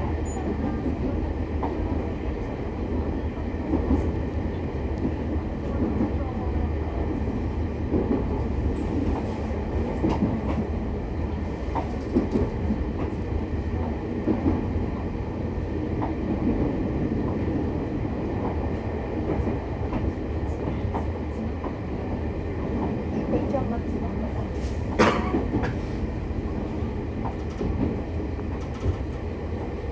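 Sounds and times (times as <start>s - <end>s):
electric train rumble: 0.0s - 29.9s.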